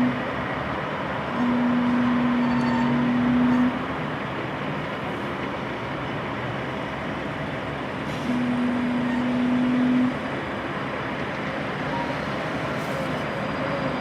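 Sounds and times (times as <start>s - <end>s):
heavy truck engines running: 0.0s - 14.0s.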